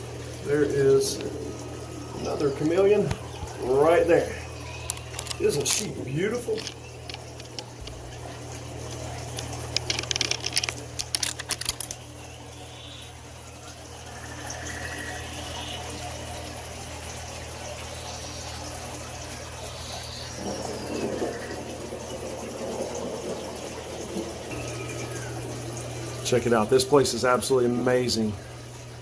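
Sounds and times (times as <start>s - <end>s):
fountain water splashing: 0.0s - 26.6s
steady low hum: 0.0s - 29.0s.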